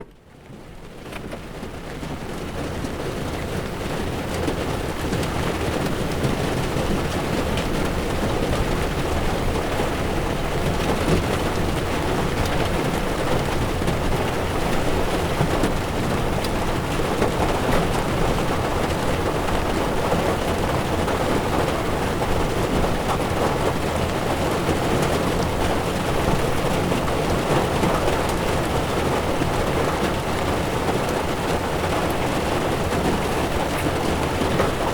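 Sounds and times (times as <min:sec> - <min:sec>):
heavy rain on windshield: 0:00.1 - 0:34.9
tyres on wet road: 0:00.4 - 0:34.9.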